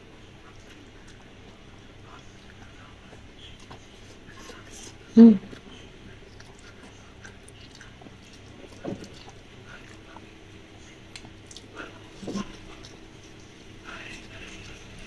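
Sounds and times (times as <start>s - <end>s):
soft chewing: 0.0s - 15.0s
muffled mouth sounds: 0.5s - 15.0s.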